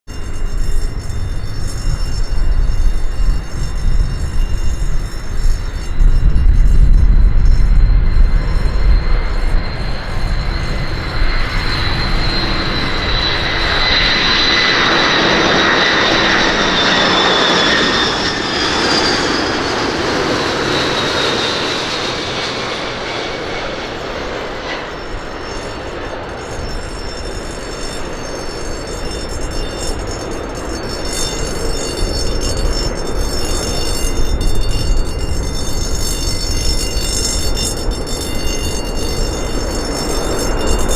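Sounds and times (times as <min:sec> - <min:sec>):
high falling jet whine: 0:00.1 - 0:40.9
jet engines roaring: 0:00.1 - 0:40.9.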